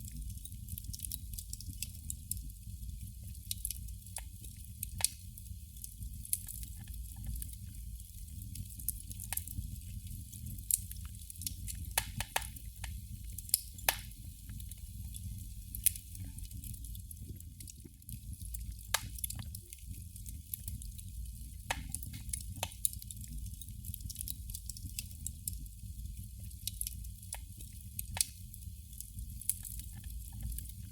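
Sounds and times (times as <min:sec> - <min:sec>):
candle flame crackling: 0:00.0 - 0:30.9.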